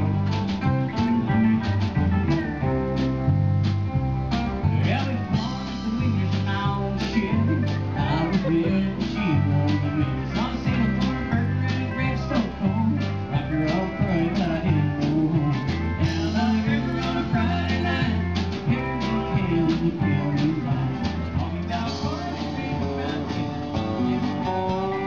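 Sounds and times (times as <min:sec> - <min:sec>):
country band playing: 0:00.0 - 0:25.0
person singing: 0:04.7 - 0:25.0.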